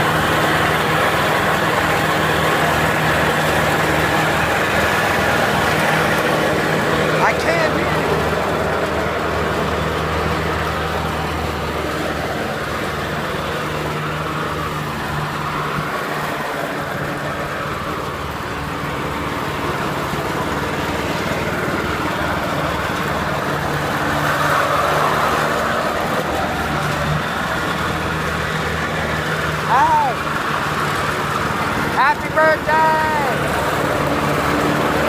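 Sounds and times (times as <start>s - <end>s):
riding lawnmower engine: 0.0s - 35.0s.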